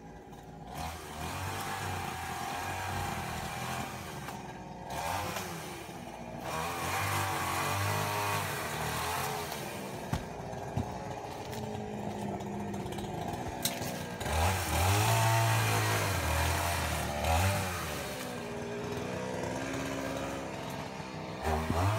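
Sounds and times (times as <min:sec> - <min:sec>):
small engine revving: 0:00.0 - 0:21.9.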